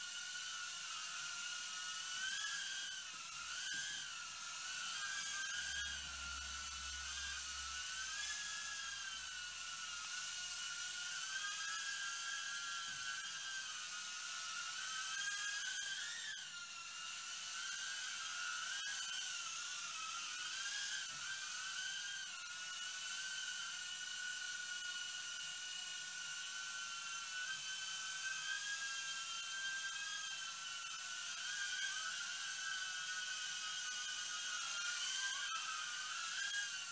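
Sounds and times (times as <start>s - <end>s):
quadcopter propellers whining: 0.0s - 36.9s.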